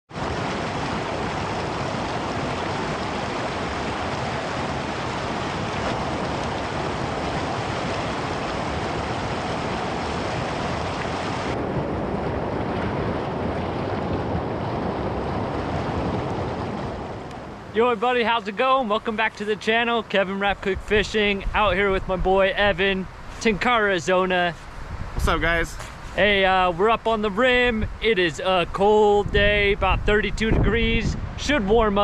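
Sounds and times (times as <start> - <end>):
rushing creek water: 0.1 - 11.6, 12.8 - 28.0.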